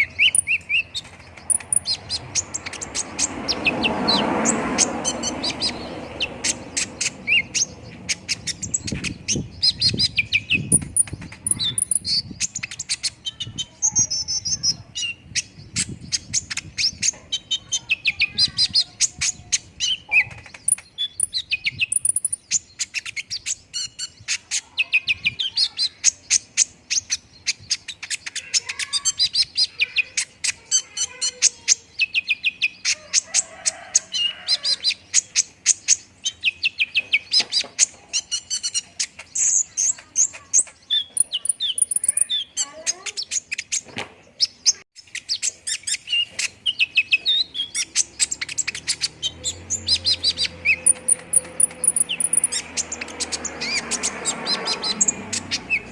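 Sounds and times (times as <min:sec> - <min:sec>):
sunbird chirps and trills: 0:00.0 - 0:55.9.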